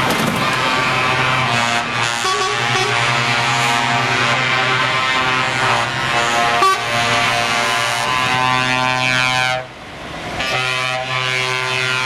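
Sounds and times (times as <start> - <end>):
truck air horns: 0.6 - 9.8, 10.4 - 12.0.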